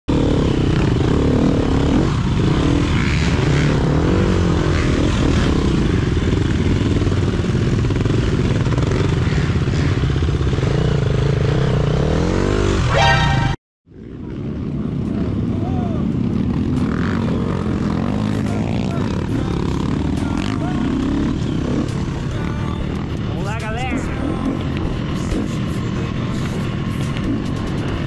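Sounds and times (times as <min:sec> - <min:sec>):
motorcycle engine revving: 0:00.1 - 0:28.0.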